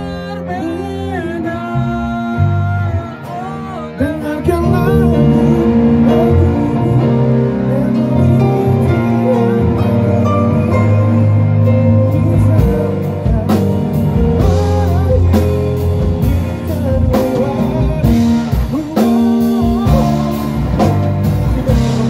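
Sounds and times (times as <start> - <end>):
electric guitar: 0.0 - 22.0
keyboard chords: 0.0 - 22.0.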